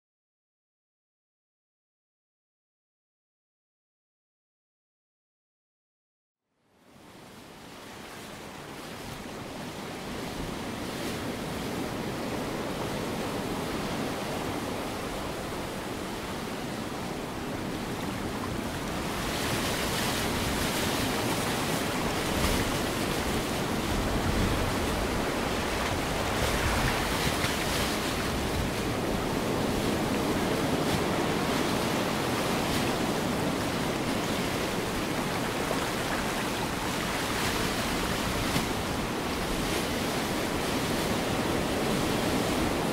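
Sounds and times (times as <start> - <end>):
waves breaking: 7.2 - 42.9.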